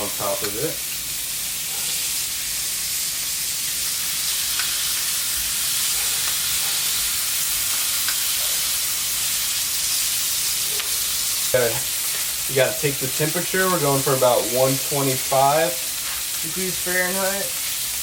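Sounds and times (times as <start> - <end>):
steaks sizzling on a griddle: 0.0 - 18.0.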